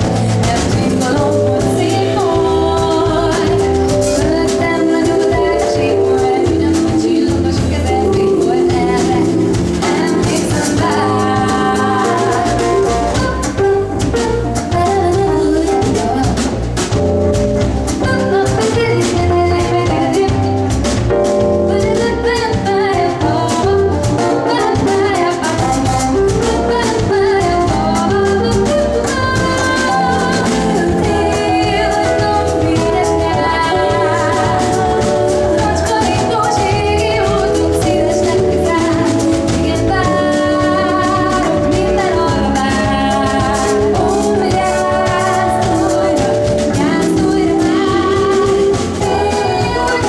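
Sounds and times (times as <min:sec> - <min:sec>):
female lead vocals: 0:00.0 - 0:13.9, 0:14.6 - 0:16.6, 0:17.9 - 0:20.8, 0:21.6 - 0:50.0
drum kit: 0:00.0 - 0:50.0
stage keyboard: 0:00.0 - 0:50.0
upright double bass: 0:00.0 - 0:50.0.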